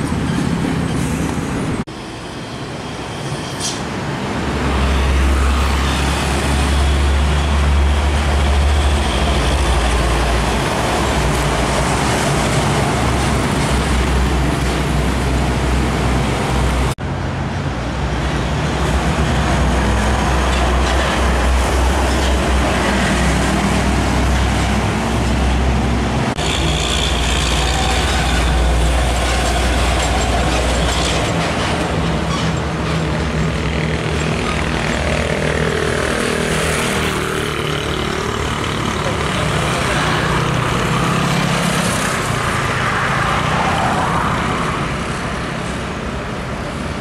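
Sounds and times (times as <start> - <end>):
traffic noise: 0.0 - 47.0
diesel truck engines rumbling: 3.6 - 47.0.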